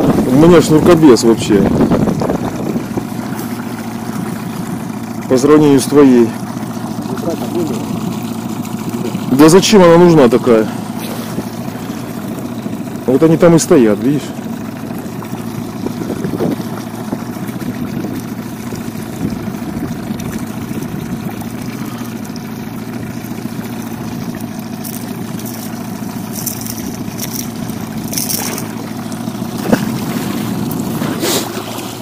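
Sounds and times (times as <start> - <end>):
outboard motor idling: 0.0 - 32.0.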